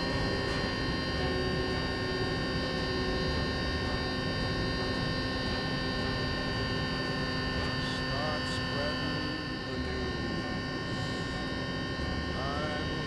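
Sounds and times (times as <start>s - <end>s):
electric motor and propeller whine: 0.0s - 13.0s.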